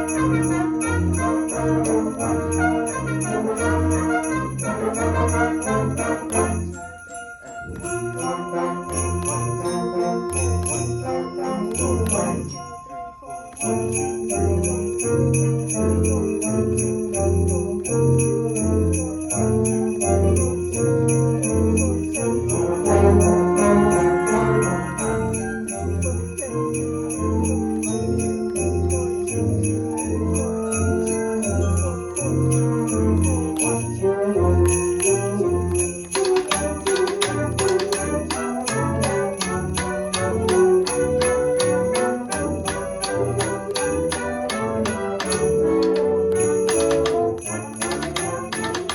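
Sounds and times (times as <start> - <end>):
sleigh bells shaken: 0.0 - 48.9.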